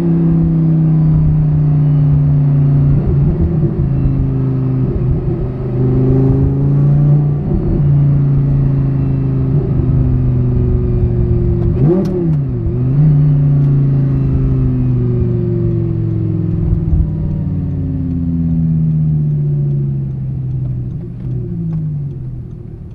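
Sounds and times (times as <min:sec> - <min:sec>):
sports car engine revving: 0:00.0 - 0:22.9.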